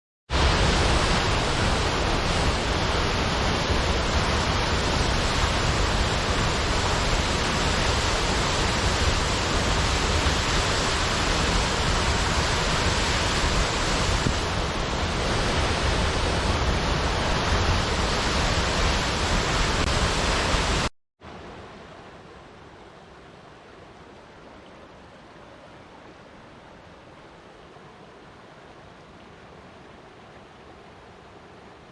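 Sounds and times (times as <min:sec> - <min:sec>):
rushing water: 0:00.3 - 0:31.9.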